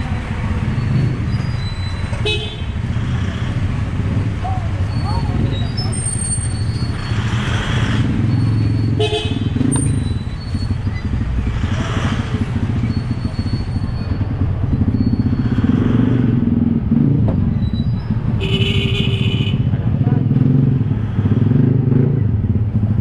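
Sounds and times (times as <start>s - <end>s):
motorcycle engine rumbling: 0.0s - 23.0s
street noise: 0.0s - 23.0s.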